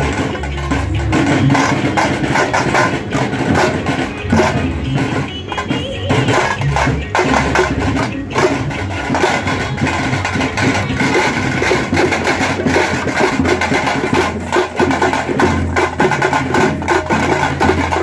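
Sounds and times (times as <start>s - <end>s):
loud drum-driven festival music: 0.0s - 18.0s.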